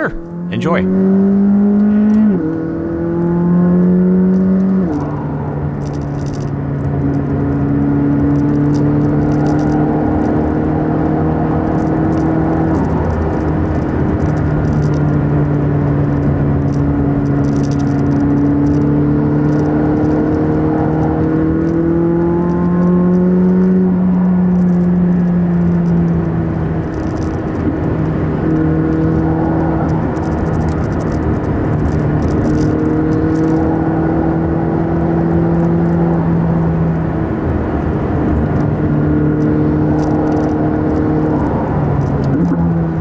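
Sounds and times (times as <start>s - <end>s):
car engine revving and shifting: 0.0s - 43.0s.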